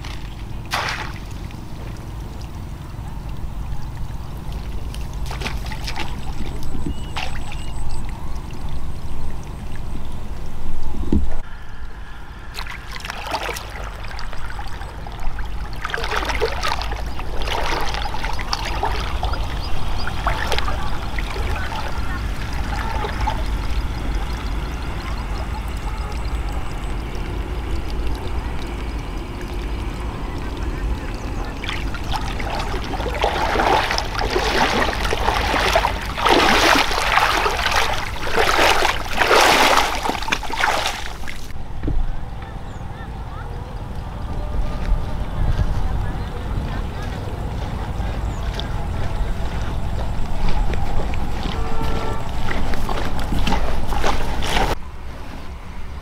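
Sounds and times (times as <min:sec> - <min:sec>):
water trickling and splashing: 0:00.0 - 0:42.0, 0:42.6 - 0:56.0.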